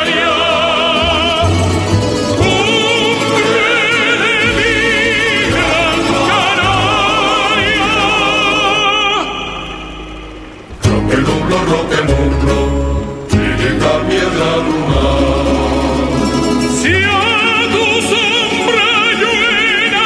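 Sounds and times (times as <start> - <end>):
operatic singing with vibrato: 0.0 - 20.0.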